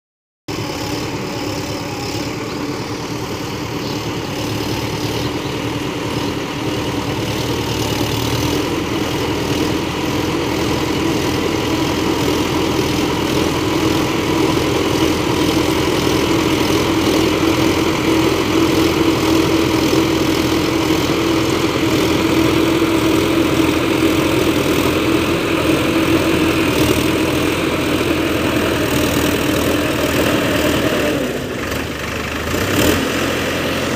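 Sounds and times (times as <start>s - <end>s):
tractor diesel engine running: 0.5s - 33.9s.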